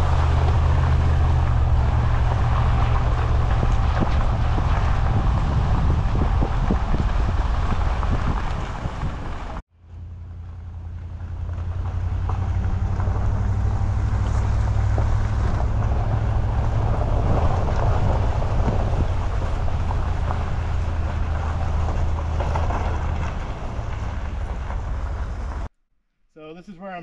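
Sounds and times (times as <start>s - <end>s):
wind buffeting microphone: 0.0s - 9.6s, 11.6s - 25.7s.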